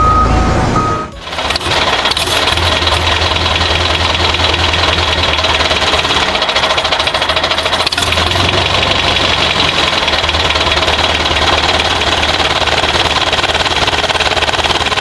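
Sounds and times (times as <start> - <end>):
small motor rattling and whining: 1.2 - 15.0.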